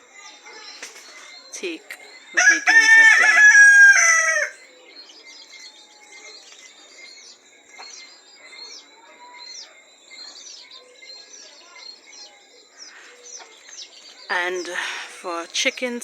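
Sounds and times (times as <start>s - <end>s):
small birds chirping: 0.0s - 16.0s
high insect hum: 0.1s - 16.0s.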